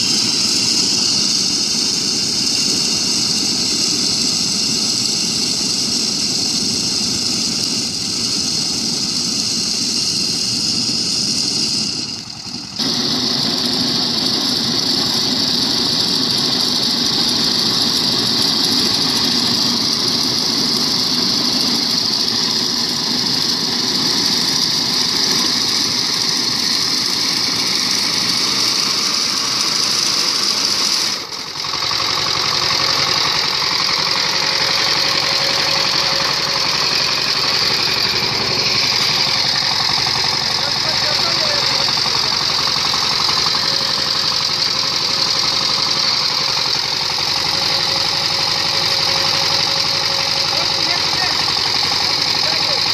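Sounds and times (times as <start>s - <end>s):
tiller engine running: 0.0s - 52.9s.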